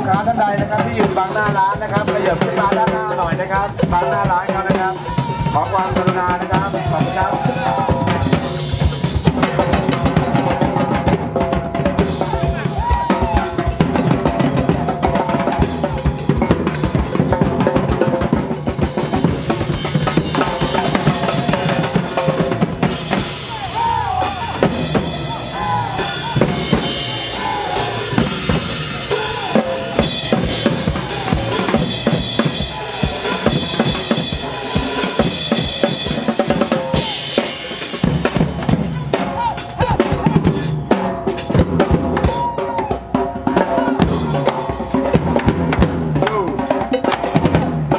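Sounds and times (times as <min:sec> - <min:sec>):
drum ensemble playing: 0:00.0 - 0:47.9.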